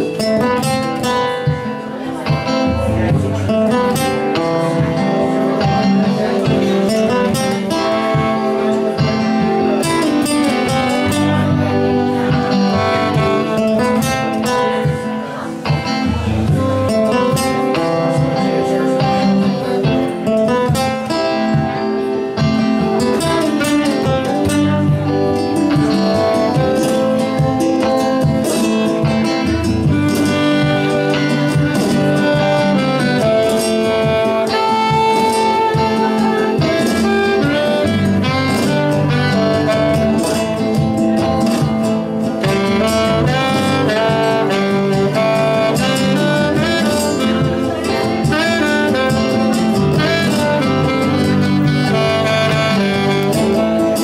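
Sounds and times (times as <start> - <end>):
acoustic guitar strumming: 0.0 - 54.0
saxophone melody: 0.0 - 54.0.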